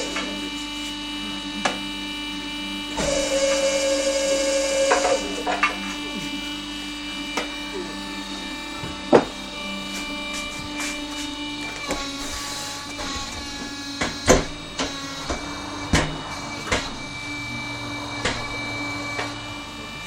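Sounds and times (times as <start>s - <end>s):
motor hum: 0.0s - 20.0s.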